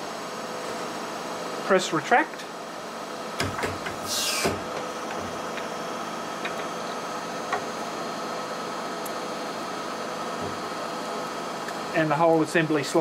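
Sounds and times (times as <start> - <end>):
riveting machine humming: 0.0 - 13.0.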